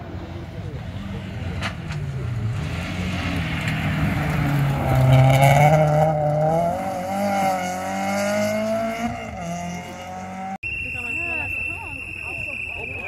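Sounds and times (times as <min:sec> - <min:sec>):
rally car engine at full throttle: 0:00.0 - 0:10.6.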